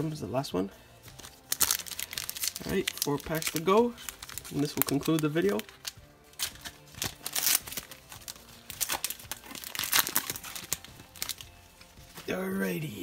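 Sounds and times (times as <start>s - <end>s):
wrapper crinkling: 1.0s - 12.4s
wrapper ripping: 1.1s - 12.3s.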